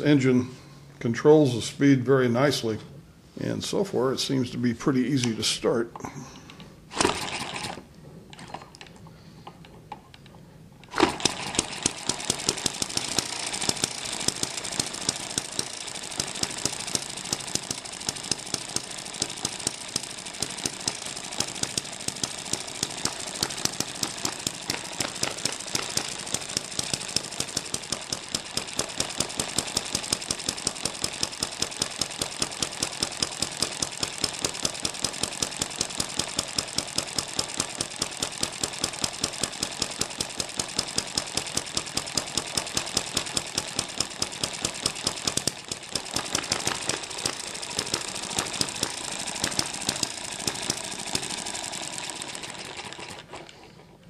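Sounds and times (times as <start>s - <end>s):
small gasoline engine running: 6.9s - 7.9s, 10.9s - 54.0s.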